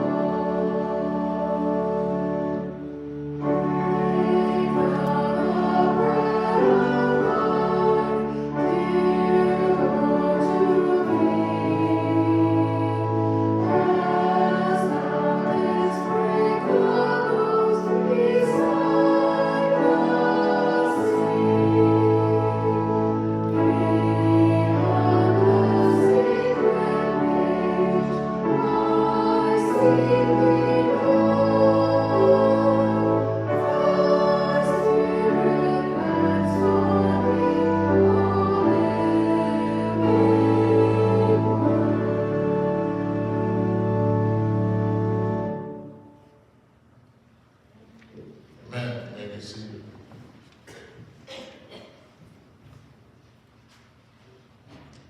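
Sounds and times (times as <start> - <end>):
sustained instrumental accompaniment: 0.0 - 46.6
choir singing church music: 0.0 - 48.0.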